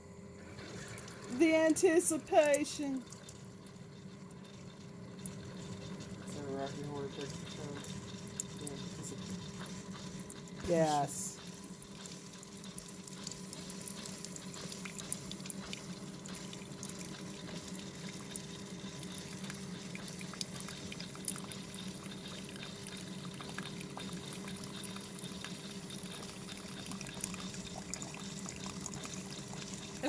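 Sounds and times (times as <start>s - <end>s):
coffee maker pump humming: 0.0s - 30.0s
coffee streaming into mug: 0.6s - 30.0s.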